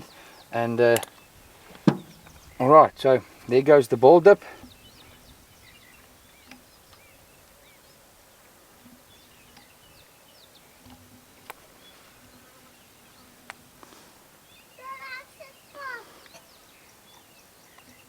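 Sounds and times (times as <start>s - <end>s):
small birds twittering: 0.0s - 18.0s.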